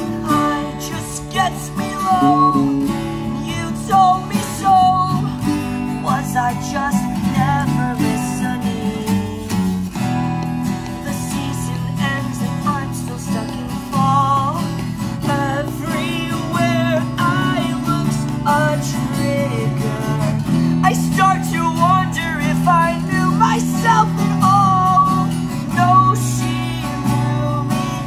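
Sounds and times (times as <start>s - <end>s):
acoustic guitars strumming: 0.0s - 28.0s
person singing: 0.0s - 28.0s.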